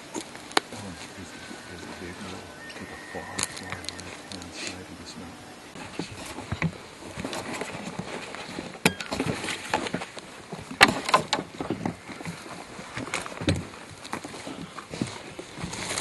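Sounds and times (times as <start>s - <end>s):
rustling and crunching: 0.0s - 16.0s.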